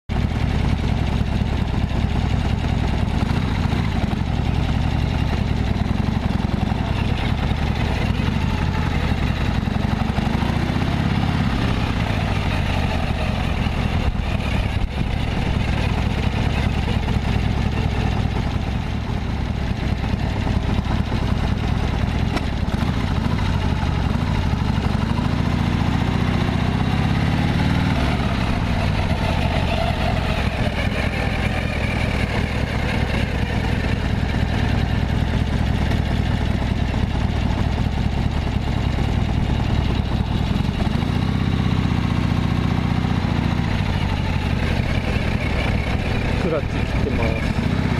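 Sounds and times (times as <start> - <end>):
motorcycle engine running: 0.1 - 47.9.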